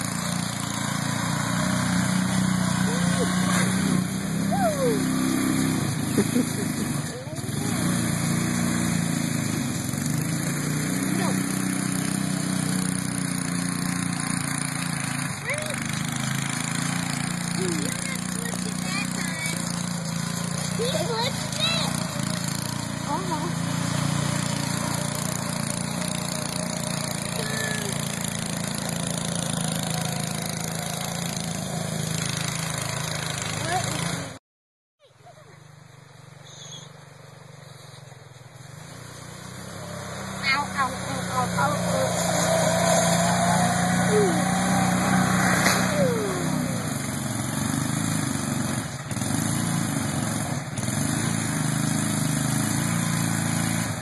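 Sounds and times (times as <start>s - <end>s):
go-kart engine running: 0.0s - 34.4s, 35.0s - 54.0s.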